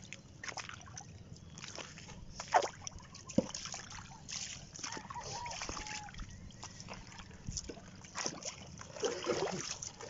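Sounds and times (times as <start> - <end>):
seawater sloshing among rocks: 0.0 - 10.0
sharp water splashes: 0.0 - 10.0.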